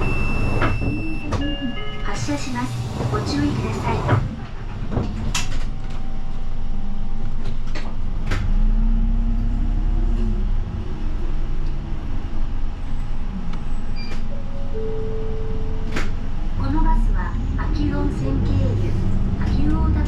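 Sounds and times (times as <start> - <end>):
bus engine running: 2.1 - 20.0.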